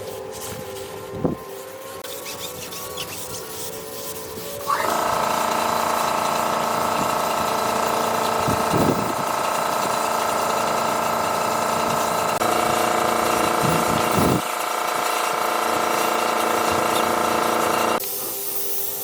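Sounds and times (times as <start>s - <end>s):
motor running steadily: 0.0s - 18.9s.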